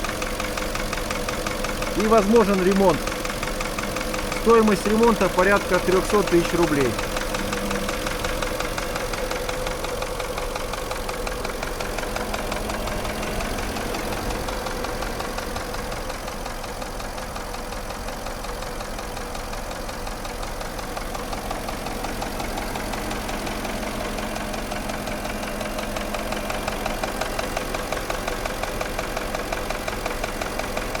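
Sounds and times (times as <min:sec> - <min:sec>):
car engine knocking: 0:00.0 - 0:31.0.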